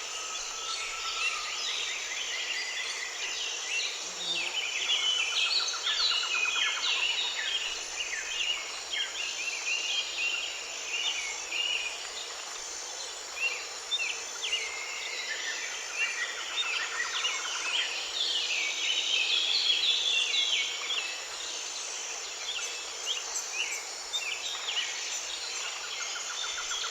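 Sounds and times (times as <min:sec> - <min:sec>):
insects hissing: 0:00.0 - 0:26.9.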